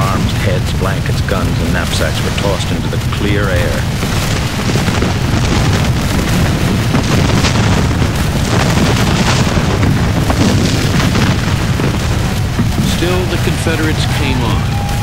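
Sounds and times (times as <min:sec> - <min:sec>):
cannon fire rumble: 0:00.0 - 0:15.0.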